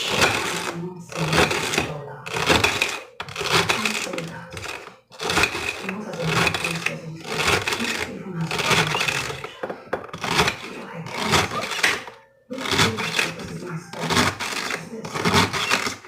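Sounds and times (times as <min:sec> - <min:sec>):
knife cutting celery on board: 0:00.0 - 0:09.4, 0:10.0 - 0:16.0.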